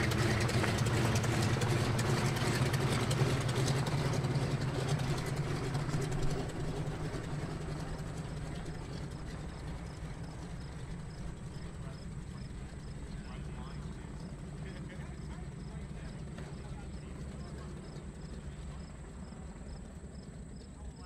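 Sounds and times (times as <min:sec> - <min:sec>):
radial aircraft engines running: 0:00.0 - 0:21.0.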